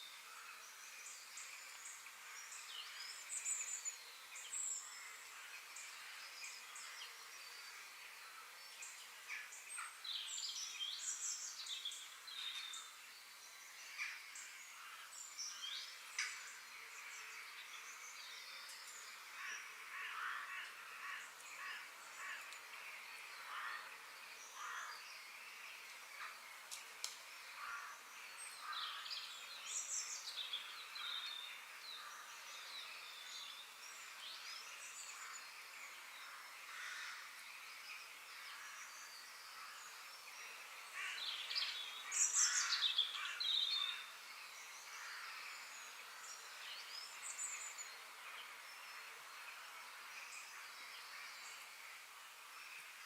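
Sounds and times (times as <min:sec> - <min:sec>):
birds singing and chirping: 0:00.0 - 0:52.0
background hiss: 0:00.0 - 0:53.0.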